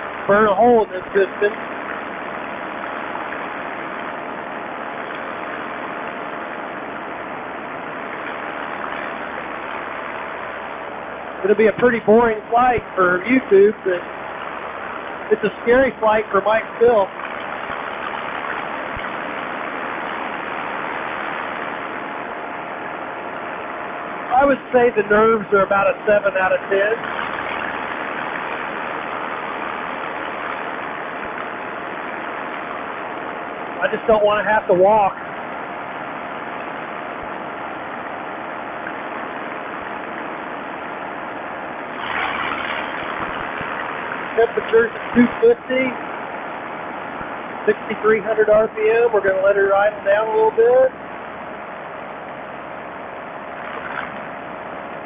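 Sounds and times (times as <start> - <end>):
paramotor engine droning: 0.0 - 55.0.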